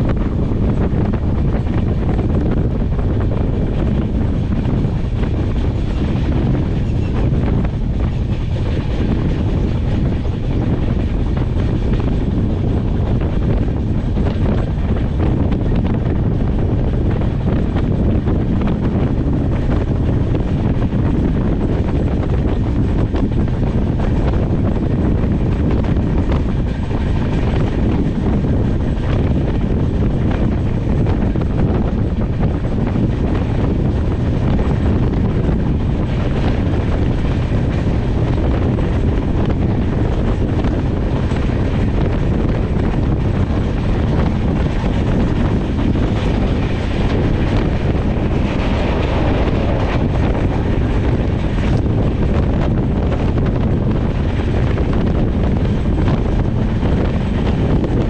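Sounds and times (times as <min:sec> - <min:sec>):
train rumbling at speed: 0:00.0 - 0:58.0
wind buffeting microphone: 0:00.0 - 0:58.0.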